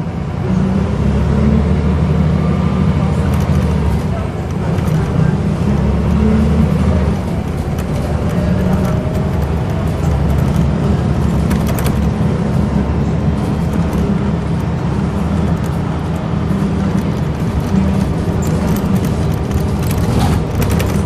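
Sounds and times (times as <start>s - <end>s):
bus engine rumble: 0.0s - 21.0s
rattles: 3.2s - 12.5s, 13.4s - 21.0s.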